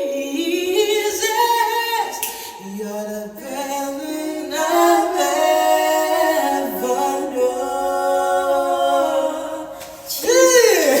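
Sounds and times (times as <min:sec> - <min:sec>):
voices singing in harmony: 0:00.0 - 0:11.0.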